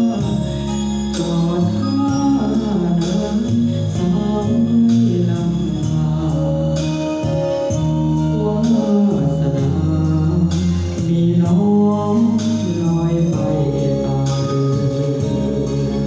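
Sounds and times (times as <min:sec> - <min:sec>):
backing music: 0:00.0 - 0:16.0
man singing into microphone: 0:00.0 - 0:16.0.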